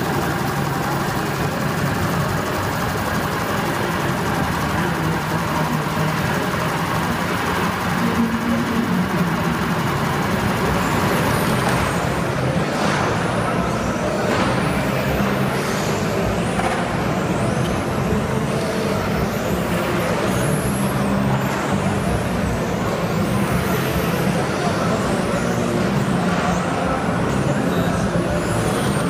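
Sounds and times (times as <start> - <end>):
exhibition hall din: 0.0 - 29.0
low machine hum: 0.0 - 29.0.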